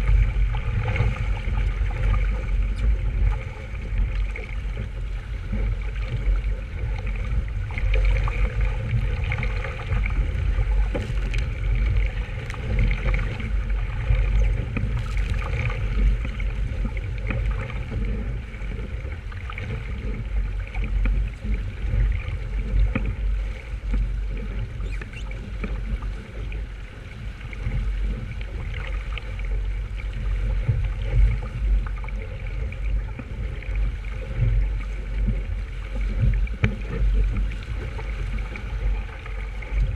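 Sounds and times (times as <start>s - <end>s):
water splashing along hull: 0.0s - 39.9s
wind buffeting microphone: 0.0s - 39.9s.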